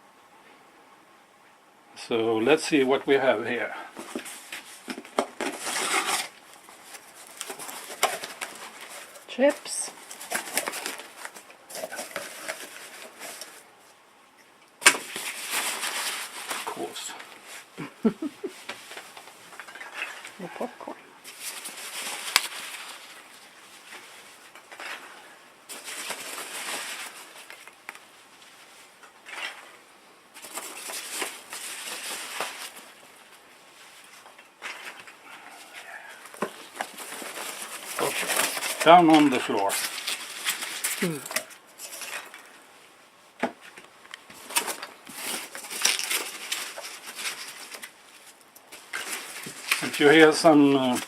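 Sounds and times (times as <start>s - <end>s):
packing peanuts rustling: 3.9s - 13.7s, 14.8s - 42.7s, 43.6s - 51.0s.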